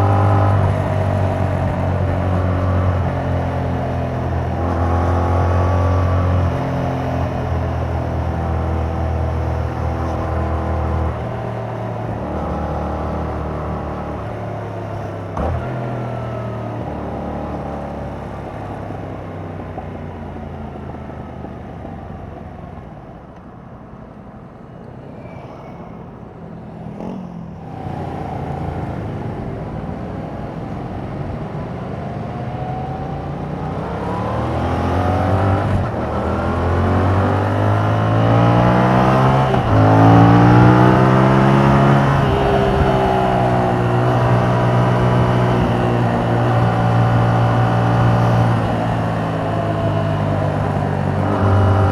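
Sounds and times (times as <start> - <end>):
motorcycle engine revving: 0.0 - 19.0, 25.0 - 51.9.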